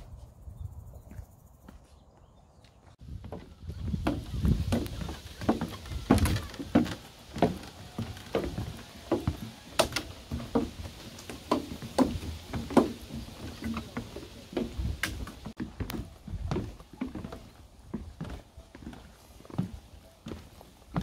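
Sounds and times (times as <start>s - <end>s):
footsteps on wooden stairs: 1.1s - 21.0s.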